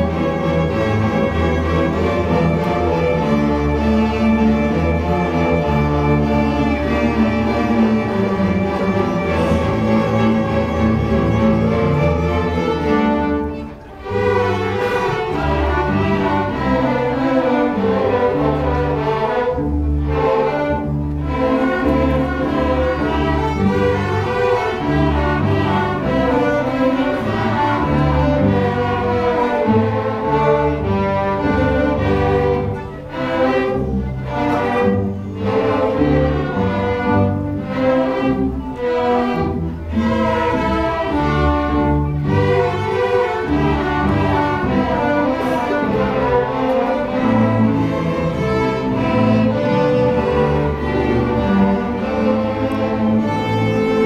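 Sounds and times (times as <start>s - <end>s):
string orchestra playing: 0.0s - 54.0s.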